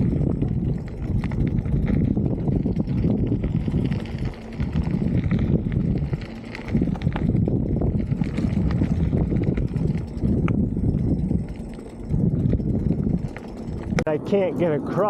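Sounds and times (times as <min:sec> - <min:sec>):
tyre and frame rattles: 0:00.0 - 0:14.0
bicycle rolling on dirt trail: 0:00.0 - 0:15.0.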